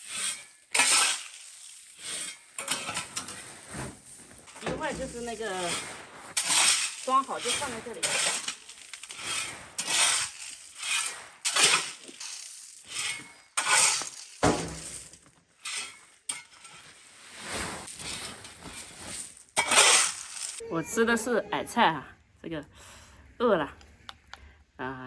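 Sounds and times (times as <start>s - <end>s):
corn kernels rattling and pouring: 0.0s - 20.6s.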